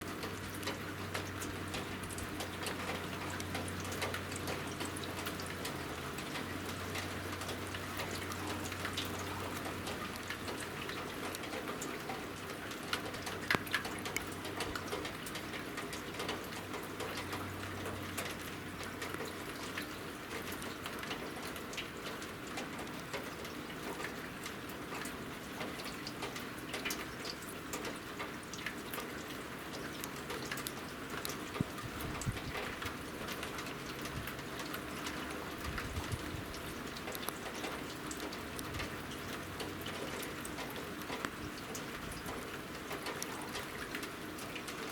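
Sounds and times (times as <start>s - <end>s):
rain pattering: 0.0s - 44.9s
water drips ticking: 0.0s - 44.9s.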